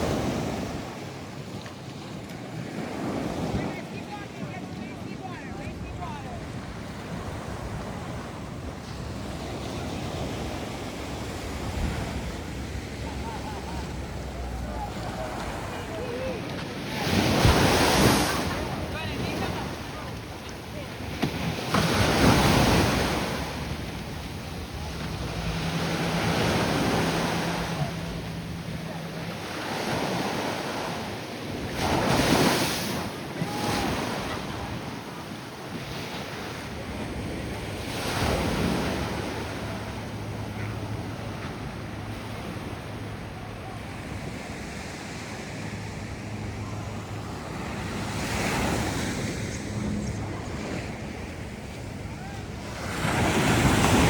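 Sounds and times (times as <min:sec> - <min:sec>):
wind buffeting microphone: 0:00.0 - 0:30.4, 0:36.7 - 0:54.0
ocean waves breaking: 0:00.0 - 0:54.0.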